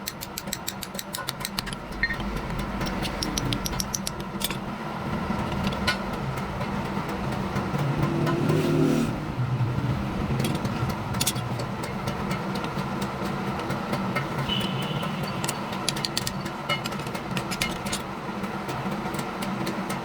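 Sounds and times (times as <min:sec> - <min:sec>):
motor hum: 0:00.0 - 0:19.1.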